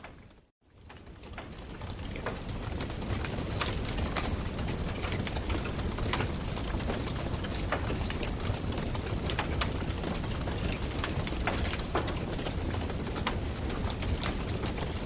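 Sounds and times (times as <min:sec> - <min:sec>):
campfire crackling and popping: 0:00.9 - 0:15.0.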